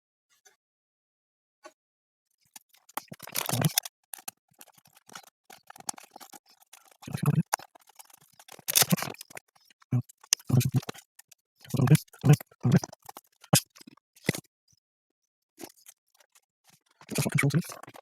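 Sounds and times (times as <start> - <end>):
plastic parts clicking and scraping: 2.3 - 14.5, 15.6 - 18.0.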